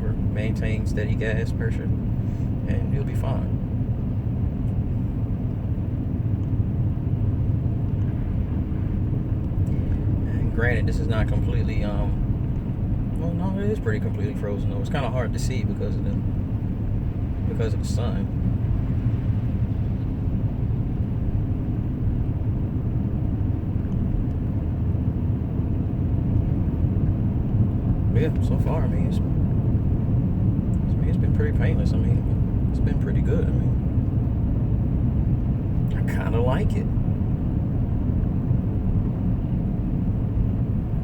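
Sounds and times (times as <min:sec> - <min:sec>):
engine and road noise in car: 0:00.0 - 0:41.0.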